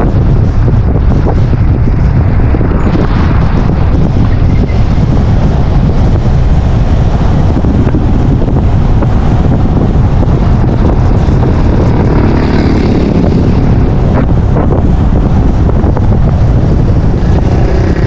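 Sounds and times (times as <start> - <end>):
moving car rumble: 0.0 - 18.0
wind buffeting microphone: 0.0 - 18.0.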